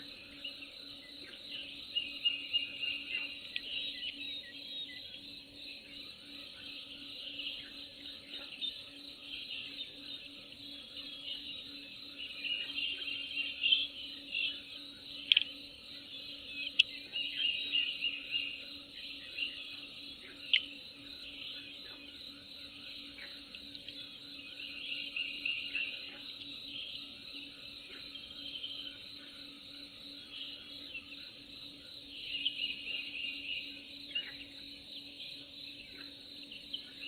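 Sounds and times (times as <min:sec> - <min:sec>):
birds chirping and trilling: 0:00.0 - 0:37.0.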